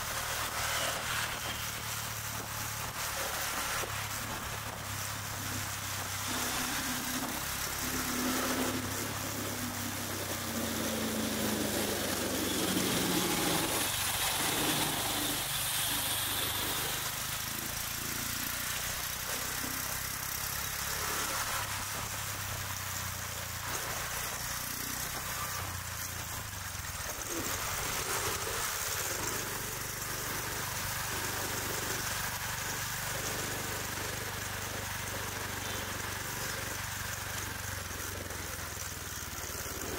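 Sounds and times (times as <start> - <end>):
scooters and cars passing: 0.0 - 39.9.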